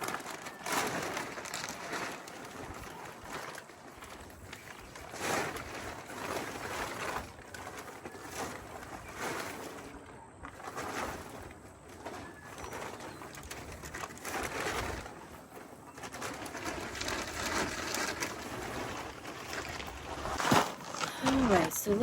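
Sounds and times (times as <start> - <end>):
tarps and blankets rustling: 0.0 - 22.0.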